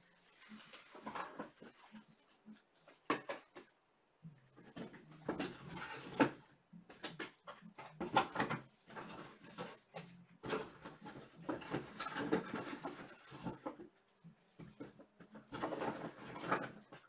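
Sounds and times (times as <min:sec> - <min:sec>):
rustling and handling noises: 0:00.0 - 0:17.0.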